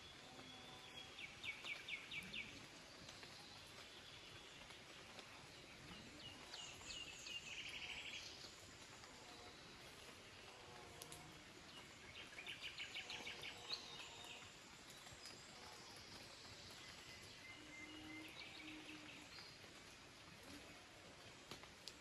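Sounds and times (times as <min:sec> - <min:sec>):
faint background hiss: 0:00.0 - 0:22.0
songbird singing: 0:00.0 - 0:22.0.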